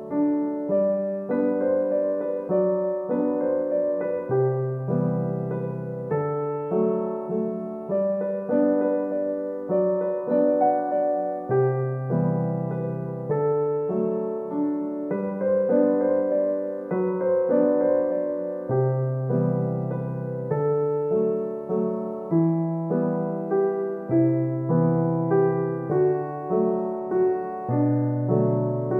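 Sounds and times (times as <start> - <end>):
gentle solo piano: 0.0 - 28.9.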